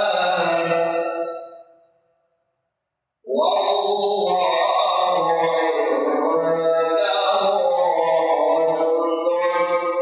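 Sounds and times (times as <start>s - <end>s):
man reciting melodically: 0.0s - 1.4s, 3.3s - 10.0s.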